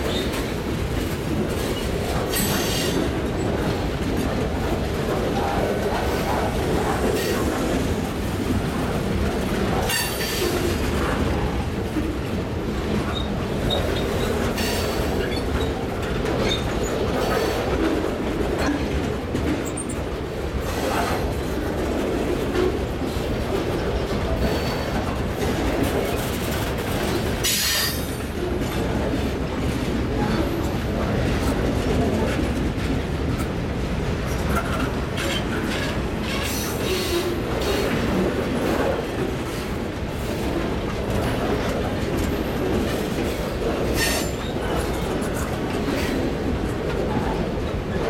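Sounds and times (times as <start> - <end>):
rumble of steel wheels on rail: 0.0 - 48.0.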